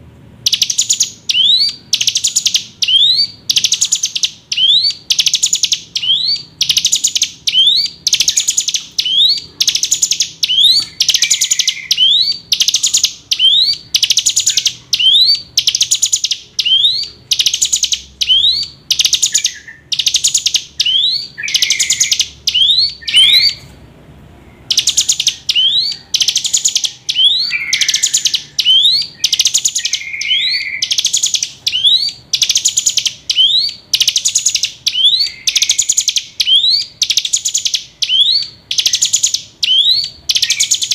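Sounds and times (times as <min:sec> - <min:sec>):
bird chattering calls: 0:00.5 - 0:23.7, 0:24.6 - 0:40.9.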